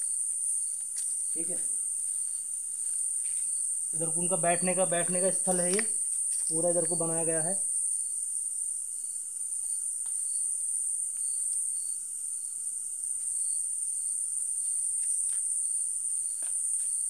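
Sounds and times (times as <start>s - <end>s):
crickets chirring: 0.0s - 17.0s
faint pulsing insect call: 0.0s - 17.0s.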